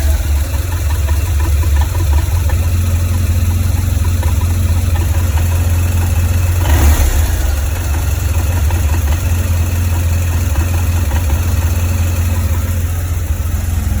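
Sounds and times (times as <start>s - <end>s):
motorcycle engine idling roughly: 0.0s - 14.0s.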